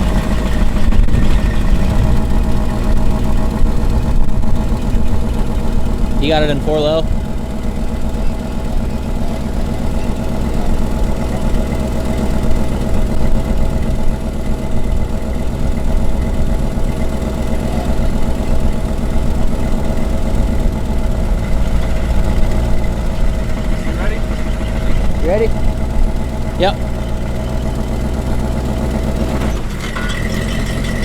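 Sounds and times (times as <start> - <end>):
engine running at low revs: 0.0 - 31.0.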